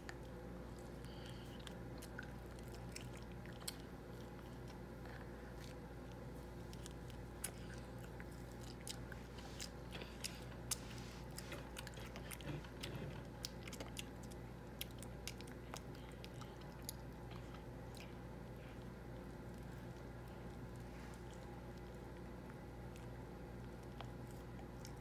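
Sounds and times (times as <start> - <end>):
faint steady hum: 0.0 - 25.0
toddler chewing with mouth clicks: 0.0 - 25.0.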